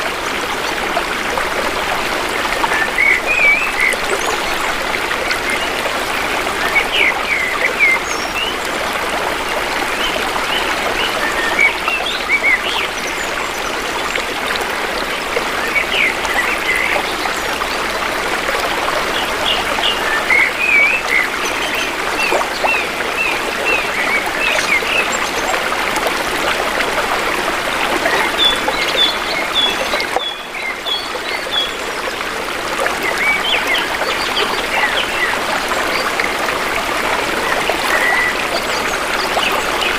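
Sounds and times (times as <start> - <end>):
shallow river babbling: 0.0 - 39.9.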